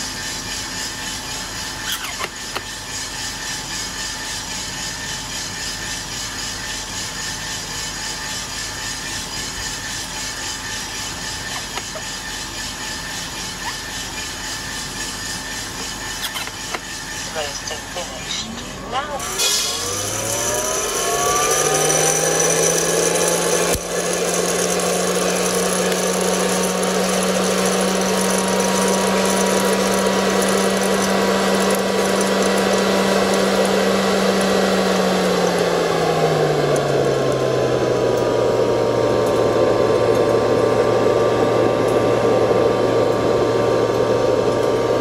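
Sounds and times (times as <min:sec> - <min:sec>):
coffee roaster motor whine: 0:00.0 - 0:45.0.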